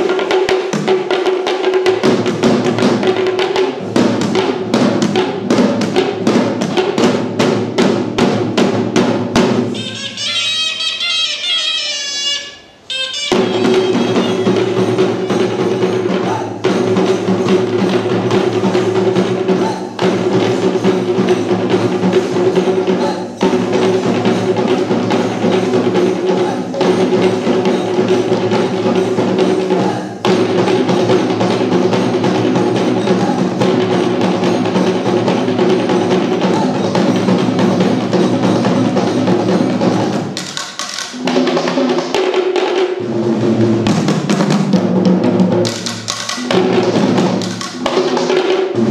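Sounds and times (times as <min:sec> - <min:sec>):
drum ensemble playing fast rhythm: 0:00.0 - 0:48.9.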